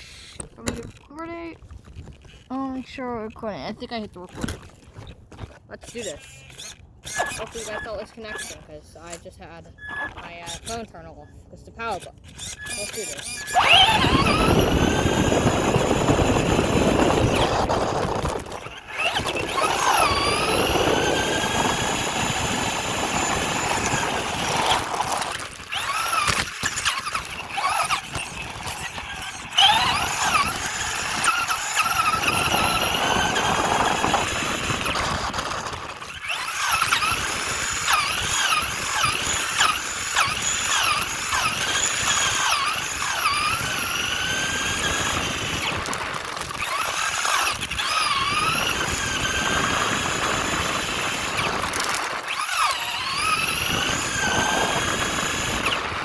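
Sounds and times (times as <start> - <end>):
toy car motor whining: 0.0 - 56.0
tyres rolling on rough ground: 0.4 - 9.6, 11.8 - 56.0.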